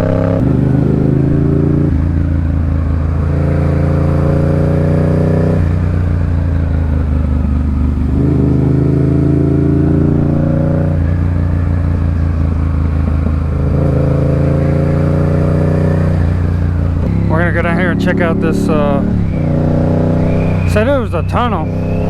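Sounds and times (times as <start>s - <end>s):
motorcycle engine changing gear: 0.0s - 22.0s.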